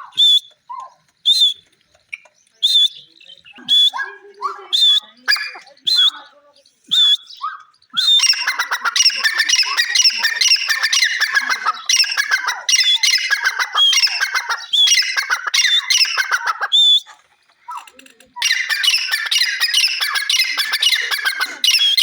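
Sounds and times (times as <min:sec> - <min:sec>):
francolins calling harshly: 0:02.6 - 0:22.0.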